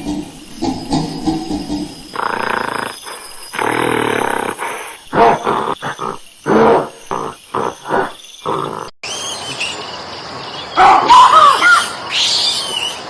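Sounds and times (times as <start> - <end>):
monkey calling: 0.0 - 13.0.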